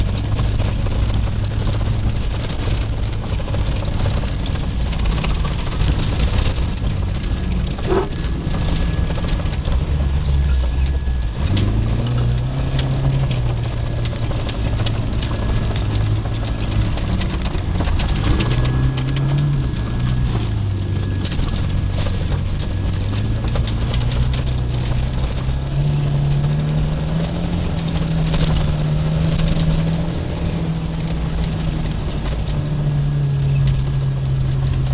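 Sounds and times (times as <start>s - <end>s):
car engine revving: 0.0s - 34.9s
steady rushing noise: 0.0s - 34.9s.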